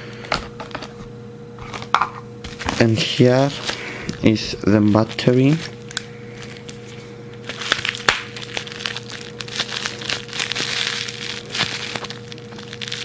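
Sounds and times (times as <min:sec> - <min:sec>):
faint hum: 0:00.0 - 0:13.0
packaging crinkling: 0:02.4 - 0:13.0.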